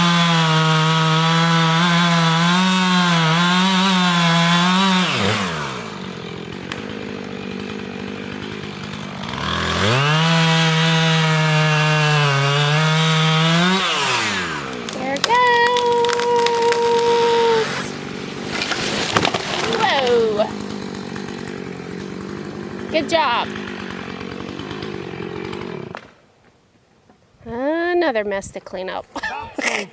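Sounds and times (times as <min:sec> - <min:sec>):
chainsaw cutting tree: 0:00.0 - 0:26.2.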